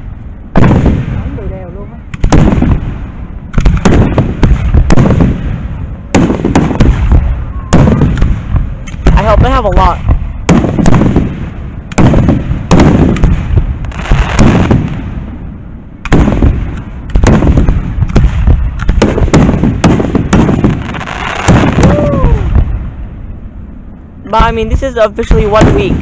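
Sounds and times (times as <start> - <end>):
fireworks booming: 0.0 - 26.0.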